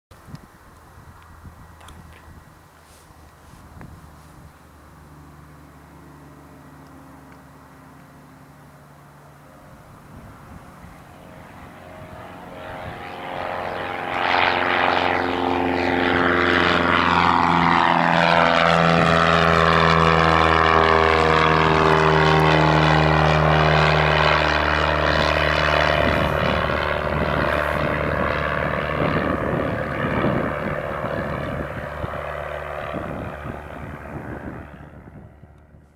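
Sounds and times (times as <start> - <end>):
light aircraft engine and propeller drone: 0.1 - 35.9.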